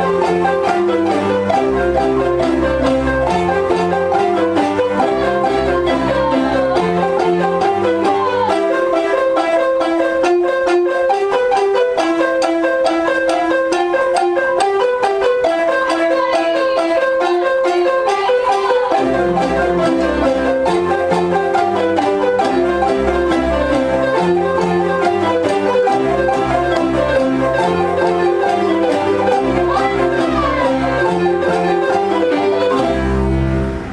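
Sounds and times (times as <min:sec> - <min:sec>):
children playing mallet percussion: 0:00.0 - 0:33.9.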